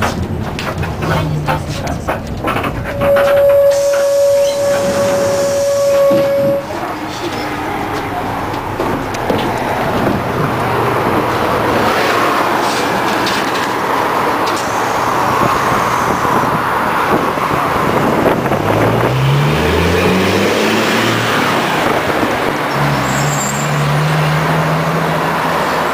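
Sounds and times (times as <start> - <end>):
bus engine pulling away: 0.0 - 25.9
street traffic noise: 0.0 - 25.9.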